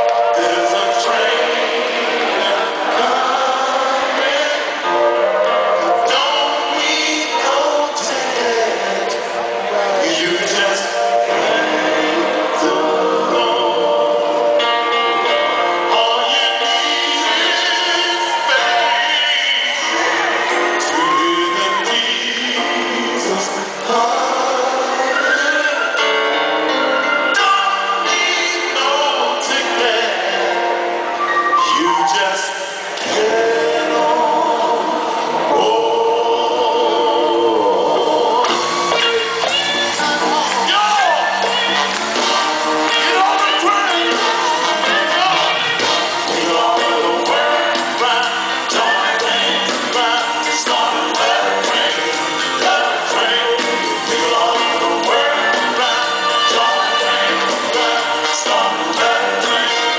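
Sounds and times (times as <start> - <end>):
live soul band playing: 0.0 - 59.9
male vocal group singing: 0.0 - 59.9.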